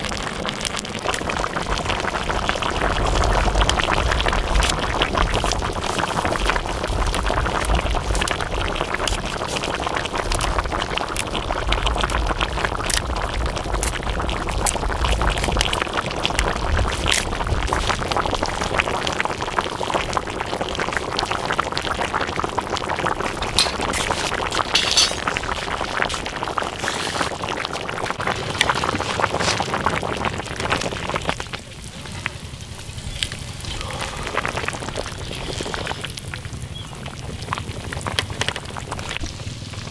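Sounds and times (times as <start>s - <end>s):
broth boiling with bubbling pops: 0.0s - 39.9s.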